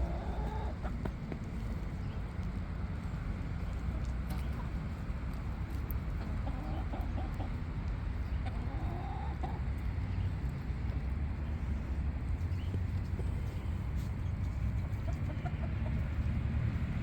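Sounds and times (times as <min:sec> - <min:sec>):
chickens clucking: 0:00.0 - 0:02.2, 0:03.7 - 0:10.9, 0:12.5 - 0:17.0
steady low rumble: 0:00.0 - 0:17.0.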